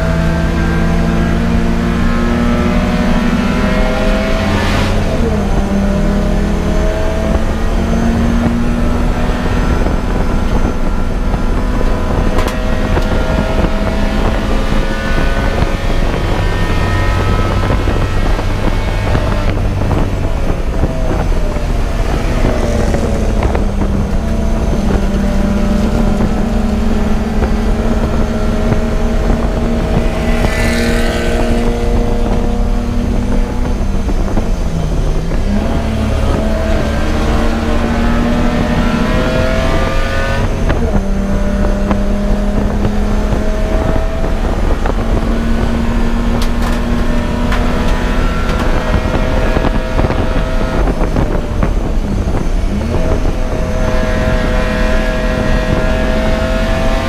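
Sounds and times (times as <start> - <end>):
race car engine revving: 0.0 - 57.0
wind on microphone: 0.0 - 57.0.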